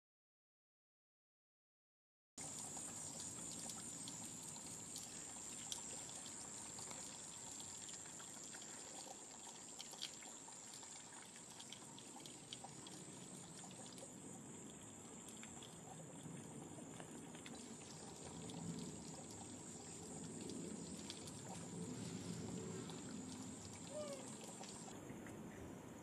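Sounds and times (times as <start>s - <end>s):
outdoor background noise: 2.4s - 26.0s.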